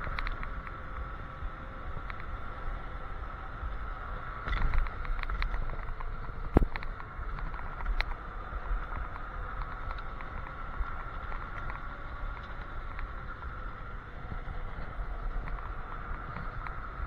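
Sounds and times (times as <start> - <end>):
light clicks and rattles: 0.0 - 1.2, 4.4 - 17.0
road noise: 0.0 - 17.0
steady high whine: 0.0 - 17.0
wind rushing over microphone: 0.0 - 17.0.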